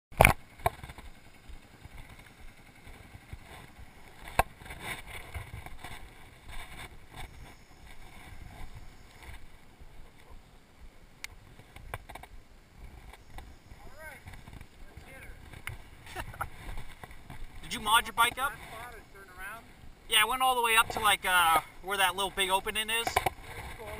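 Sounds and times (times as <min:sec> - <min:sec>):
low outdoor background noise: 0:00.1 - 0:23.9.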